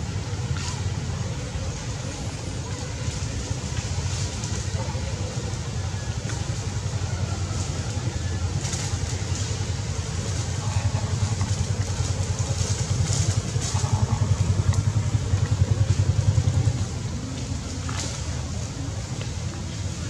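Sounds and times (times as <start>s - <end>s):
motorcycle engine running: 0.1s - 20.0s.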